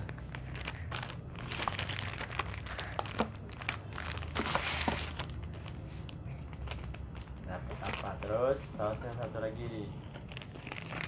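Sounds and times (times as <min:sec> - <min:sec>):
plastic wrapper crinkling: 0:00.0 - 0:09.4, 0:10.1 - 0:11.0.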